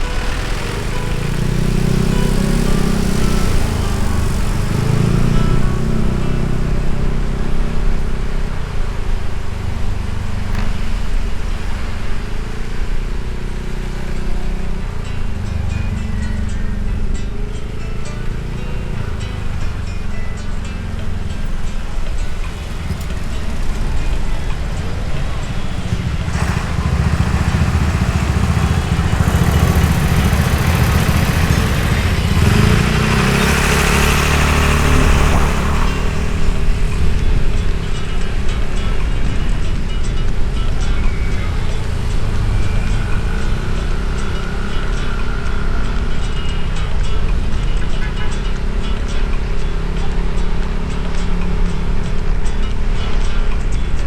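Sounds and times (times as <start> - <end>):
motorbike engine running: 0.0 - 54.0
wind and road noise: 0.0 - 54.0.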